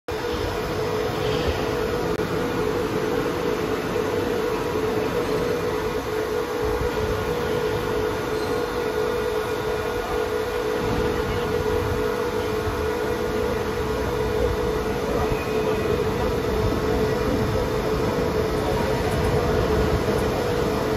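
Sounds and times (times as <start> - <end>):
machine hum: 0.1 - 20.9.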